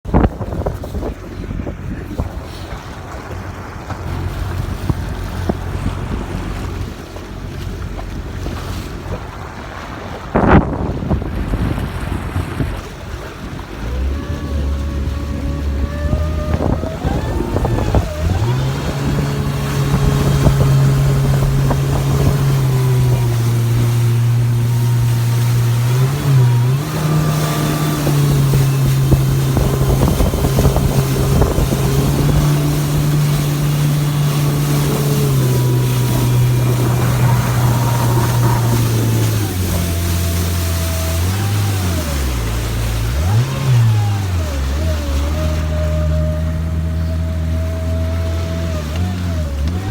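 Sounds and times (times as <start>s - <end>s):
jet ski engine running: 0.0s - 49.9s.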